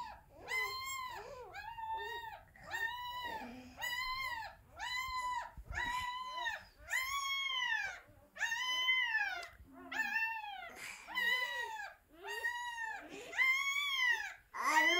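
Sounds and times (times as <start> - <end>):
puppy squealing whines: 0.0 - 14.9.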